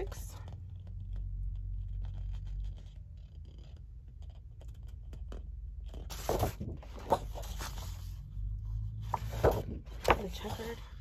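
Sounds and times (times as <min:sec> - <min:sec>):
low steady hum: 0:00.0 - 0:11.0
paper rustling: 0:00.1 - 0:11.0.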